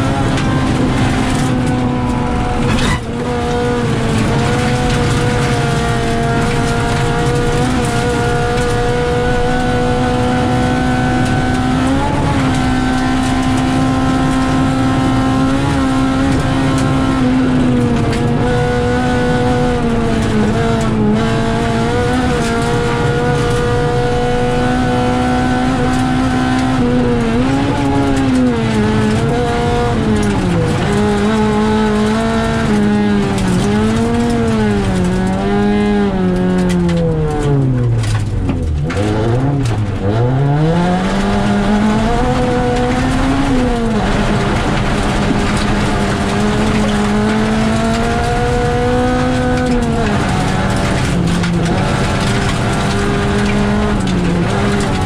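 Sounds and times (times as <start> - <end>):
rally car engine at high revs: 0.0 - 55.0
road and gravel noise: 0.0 - 55.0.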